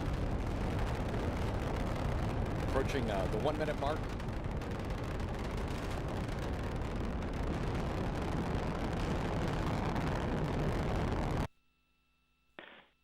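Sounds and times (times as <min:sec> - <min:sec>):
rocket engines rumbling: 0:00.0 - 0:11.5.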